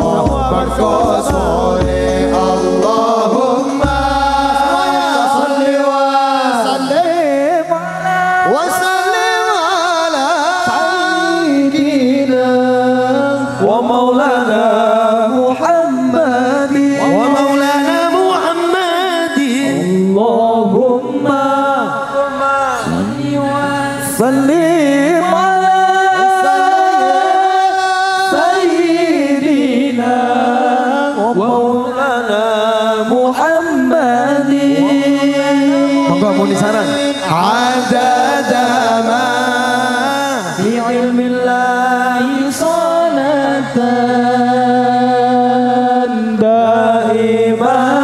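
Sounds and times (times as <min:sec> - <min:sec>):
amplified man singing chant: 0:00.0 - 0:48.0.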